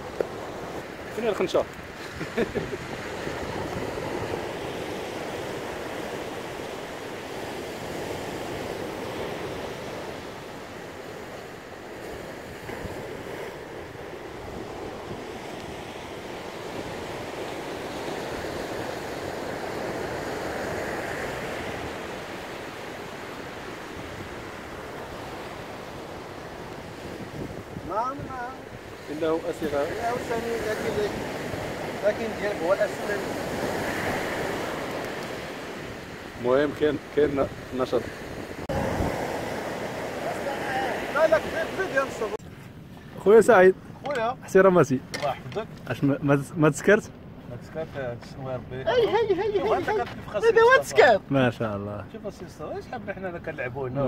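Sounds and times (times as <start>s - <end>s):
ocean surf washing on beach: 0.0s - 54.0s.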